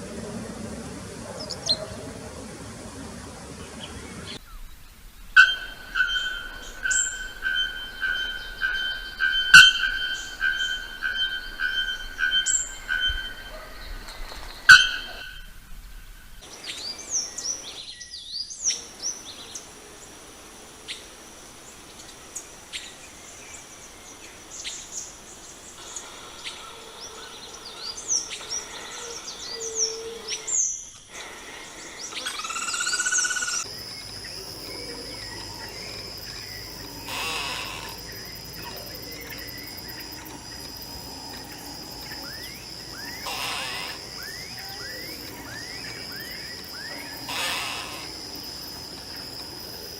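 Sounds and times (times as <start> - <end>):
birds singing and calling: 1.2 - 15.4, 22.8 - 49.9
high insect drone: 5.4 - 15.4, 18.8 - 49.9.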